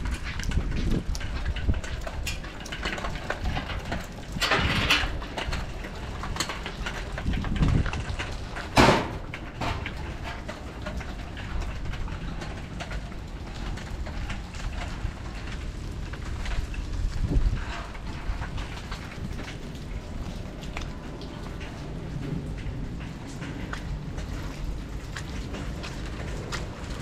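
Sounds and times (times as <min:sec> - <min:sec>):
raindrops ticking: 0:00.0 - 0:27.0
wind rumbling on microphone: 0:00.0 - 0:27.0.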